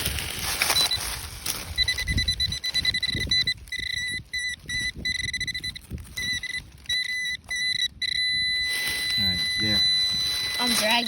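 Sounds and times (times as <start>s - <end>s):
metal detector beeping: 0.6s - 11.0s.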